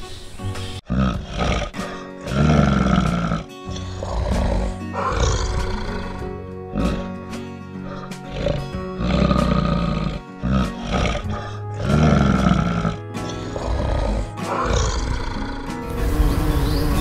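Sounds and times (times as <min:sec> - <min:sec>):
background music sustained notes: 0:00.0 - 0:17.0
big cat calling: 0:00.9 - 0:07.2, 0:07.8 - 0:17.0.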